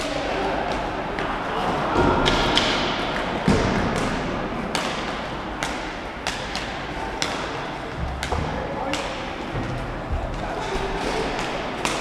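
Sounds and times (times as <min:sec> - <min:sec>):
skates rolling on floor: 0:00.0 - 0:12.0.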